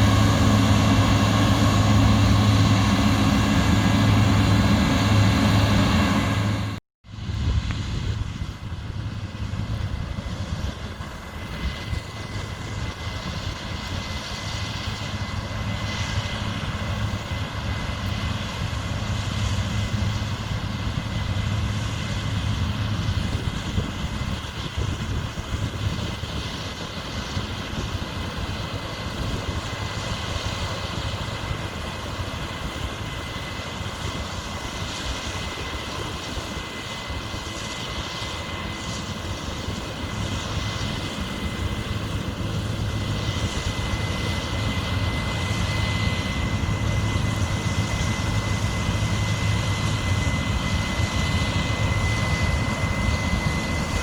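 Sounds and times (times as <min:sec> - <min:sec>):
farm machine engine hum: 0:00.0 - 0:54.0.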